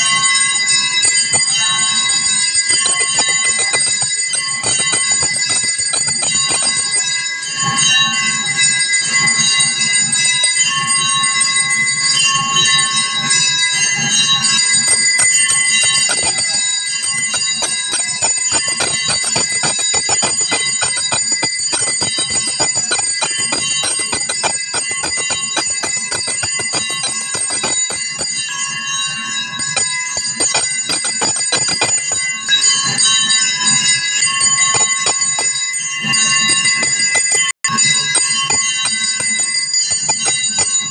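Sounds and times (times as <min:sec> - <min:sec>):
brass hand bell ringing: 0:00.0 - 0:40.9.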